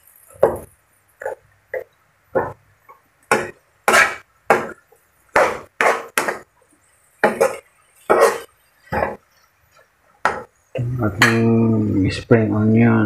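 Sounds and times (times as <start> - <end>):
vegetables stir-frying: 0.0 - 11.3.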